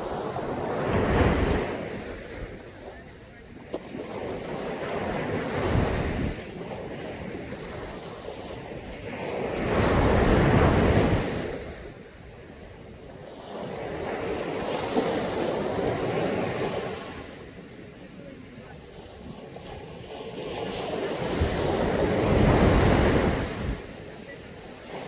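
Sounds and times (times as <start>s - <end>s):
surf washing onto beach: 0.0s - 25.0s.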